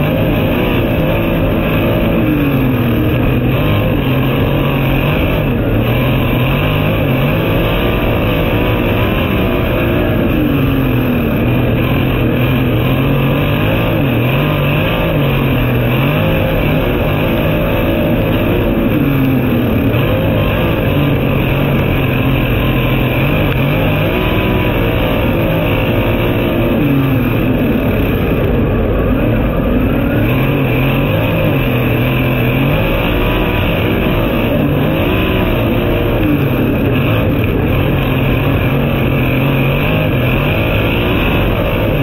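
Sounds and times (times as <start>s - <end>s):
race car engine revving: 0.0s - 42.0s.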